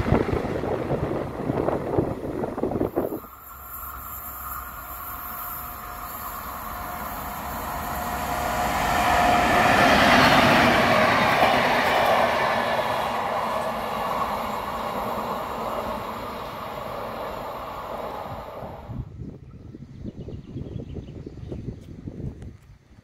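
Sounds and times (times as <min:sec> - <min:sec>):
train passing on tracks: 0:00.0 - 0:19.2.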